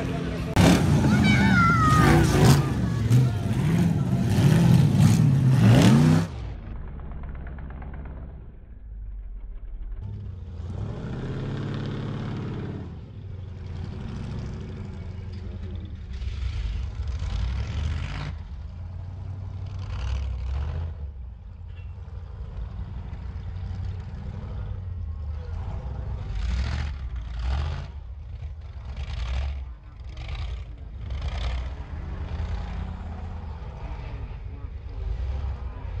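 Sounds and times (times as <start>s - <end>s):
race buggy engines running hard: 0.0s - 36.0s.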